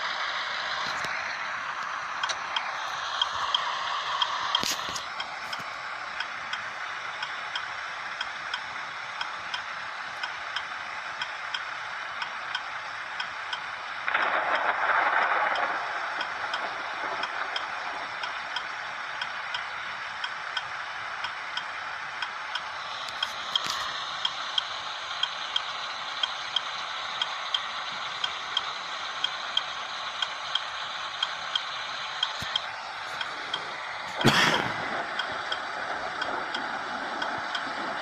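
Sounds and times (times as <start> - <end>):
engine hum: 0.0 - 38.0
indicator flasher ticking: 0.5 - 38.0.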